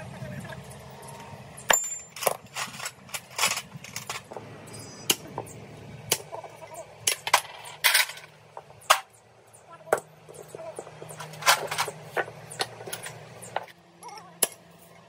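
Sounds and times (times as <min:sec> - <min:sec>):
low steady hum: 0:00.0 - 0:15.0
metal tools clinking: 0:01.1 - 0:05.5, 0:06.4 - 0:14.7.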